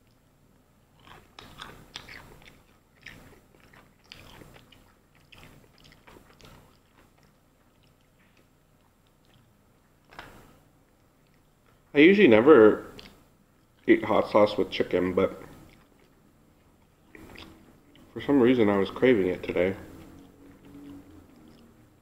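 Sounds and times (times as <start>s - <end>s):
crunchy chewing of fried chicken: 0.0s - 11.9s, 12.6s - 22.0s.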